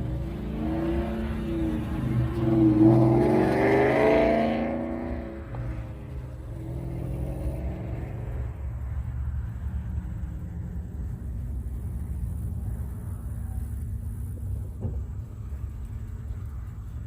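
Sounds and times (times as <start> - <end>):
car engine running slowly: 0.0 - 17.0.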